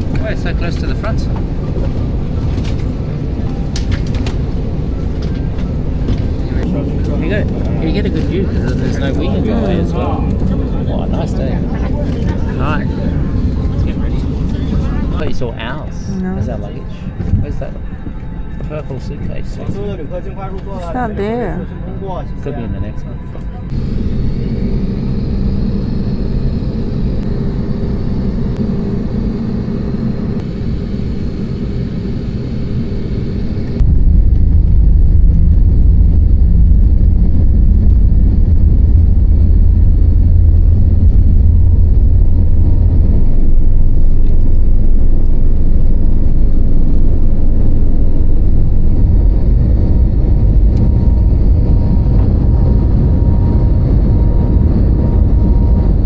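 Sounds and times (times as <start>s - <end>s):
airliner engine hum in cabin: 0.0s - 56.0s
loud low engine rumble: 0.0s - 56.0s.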